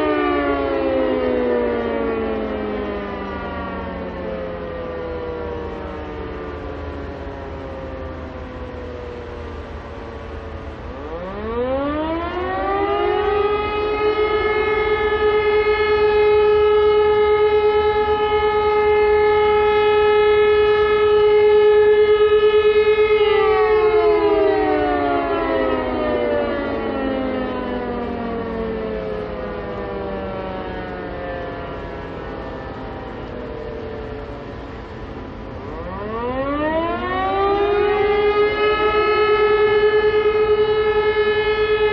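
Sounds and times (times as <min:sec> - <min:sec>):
warning siren wailing: 0:00.0 - 0:41.9.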